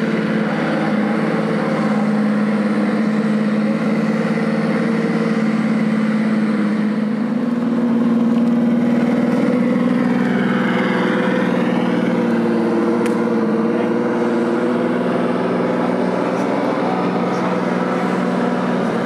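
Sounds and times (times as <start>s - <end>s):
engine running: 0.0s - 19.0s
high whine: 0.0s - 19.0s.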